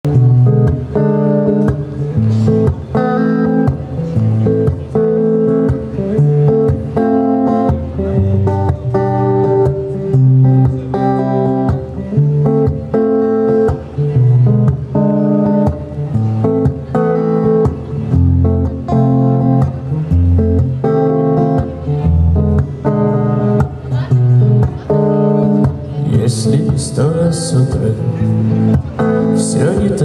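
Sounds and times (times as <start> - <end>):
electric guitar strumming chords: 0.1 - 30.0.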